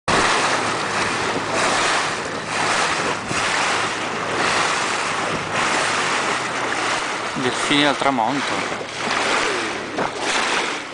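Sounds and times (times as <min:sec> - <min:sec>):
water rushing past boat: 0:00.0 - 0:10.9
wind buffeting microphone: 0:00.1 - 0:10.9.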